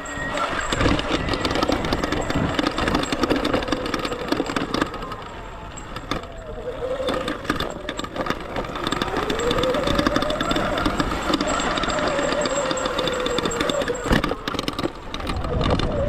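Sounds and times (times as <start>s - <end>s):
chain and frame clattering: 0.0s - 16.0s
electric motorbike motor whining: 0.0s - 16.0s.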